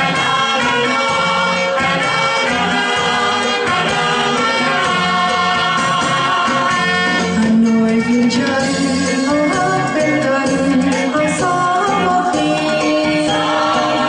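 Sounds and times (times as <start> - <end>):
amplified backing music: 0.0 - 14.0
group singing into microphones: 0.0 - 14.0.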